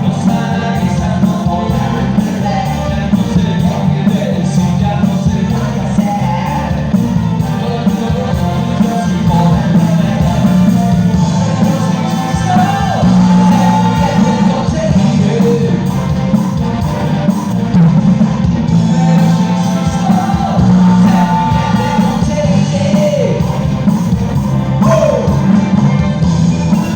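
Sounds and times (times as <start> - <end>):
person singing: 0.0 - 16.6, 18.7 - 24.0, 24.7 - 26.0
live band music: 0.0 - 26.9.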